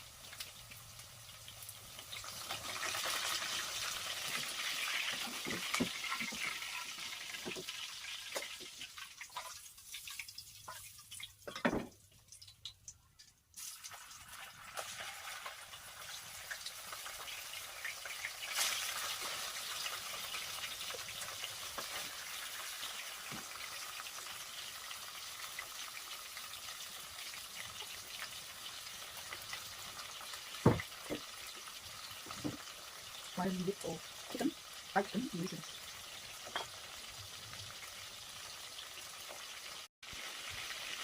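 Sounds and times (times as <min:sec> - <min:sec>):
chicken sizzling in hot oil: 0:00.0 - 0:12.8, 0:13.4 - 0:41.0.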